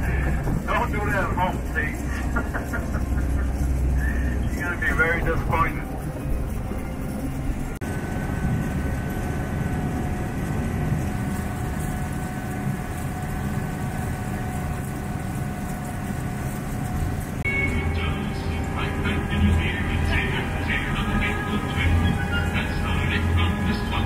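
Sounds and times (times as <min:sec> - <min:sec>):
boat engine rumbling: 0:00.0 - 0:24.0
faint steady whine: 0:00.0 - 0:24.0.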